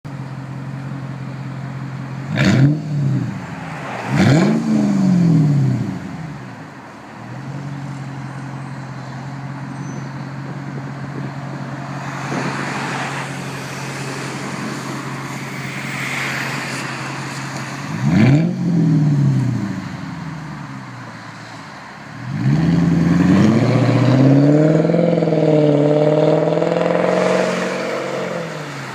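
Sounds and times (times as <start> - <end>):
car engine idling and revving: 0.1 - 28.9.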